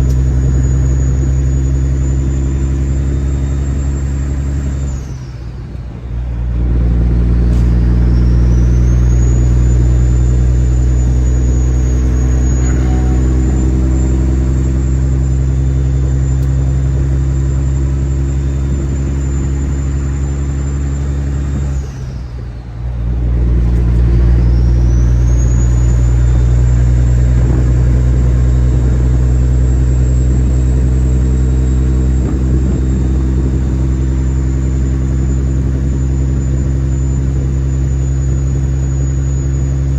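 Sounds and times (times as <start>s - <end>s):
turbo whistle: 0.0s - 6.3s, 7.0s - 39.9s
diesel truck engine running: 0.0s - 39.9s.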